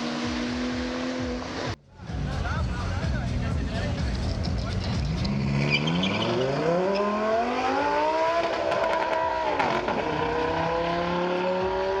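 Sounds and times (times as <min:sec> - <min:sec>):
sports car engine accelerating: 0:00.0 - 0:01.8, 0:02.4 - 0:12.0.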